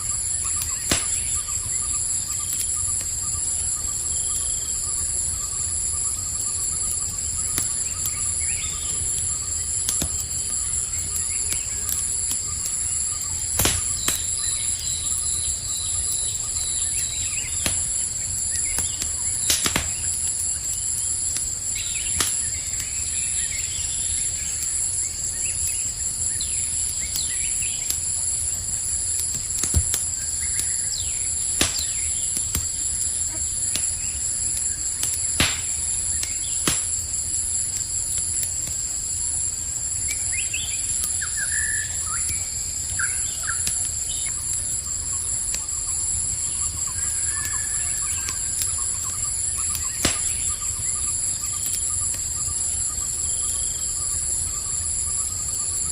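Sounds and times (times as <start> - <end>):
campfire crackling and popping: 0.0 - 55.9
crickets chirping: 0.0 - 55.9.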